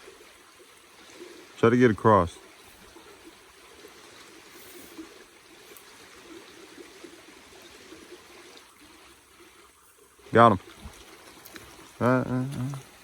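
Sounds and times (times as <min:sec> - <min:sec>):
brook babbling over stones: 0:00.0 - 0:13.0.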